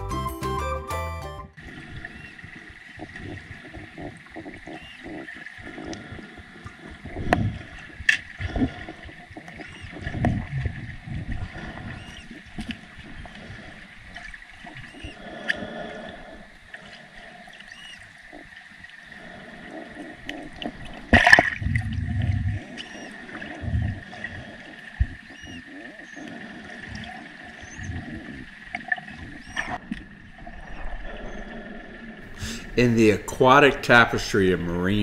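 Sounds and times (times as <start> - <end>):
gurgling water: 1.6 - 35.0
manatees squeaking underwater: 1.9 - 33.0.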